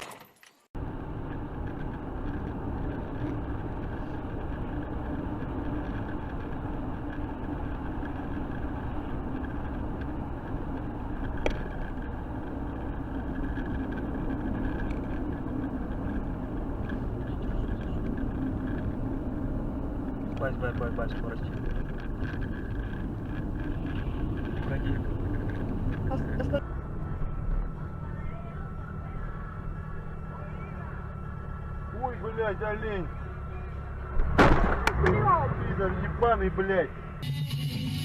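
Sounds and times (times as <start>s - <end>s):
car road and engine noise: 0.0s - 38.0s.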